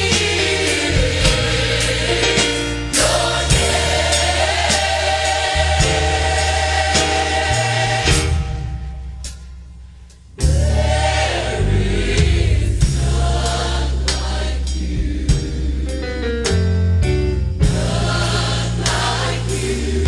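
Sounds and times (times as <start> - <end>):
gospel choir singing: 0.0 - 9.1, 10.4 - 16.4, 17.6 - 20.0.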